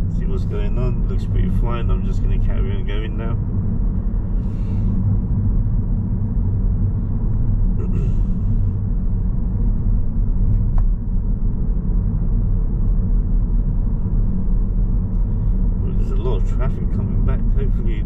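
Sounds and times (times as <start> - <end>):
car engine and tyres rumble inside: 0.0 - 18.0.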